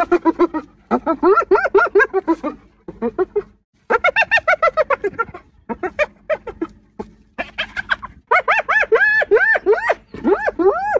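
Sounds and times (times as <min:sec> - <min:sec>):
hyena giggling: 0:00.0 - 0:10.9.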